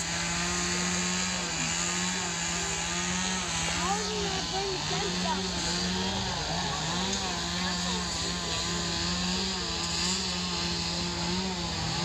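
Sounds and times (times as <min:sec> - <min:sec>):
chainsaw carving wood: 0:00.0 - 0:12.0.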